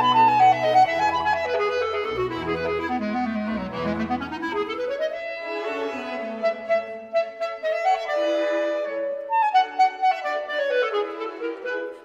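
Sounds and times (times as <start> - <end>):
clarinet melody: 0.0 - 12.0.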